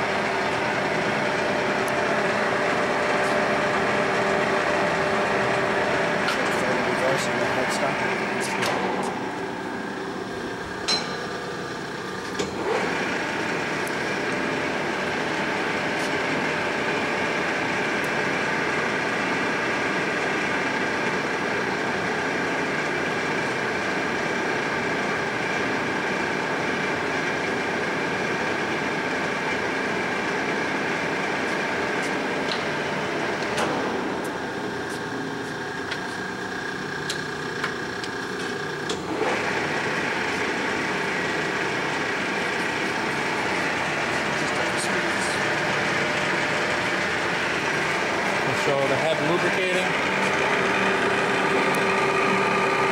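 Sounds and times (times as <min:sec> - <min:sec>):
lathe mechanical whine: 0:00.0 - 0:52.9.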